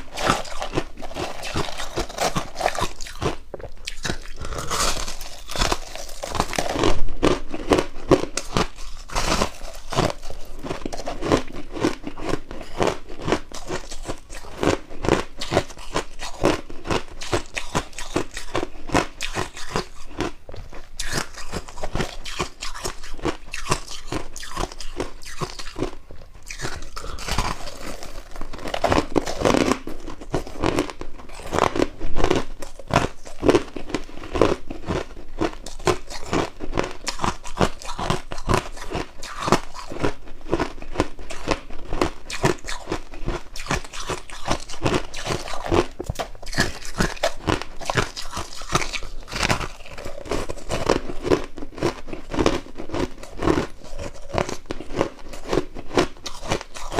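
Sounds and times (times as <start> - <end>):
frost being chewed crunching: 0.0 - 56.9.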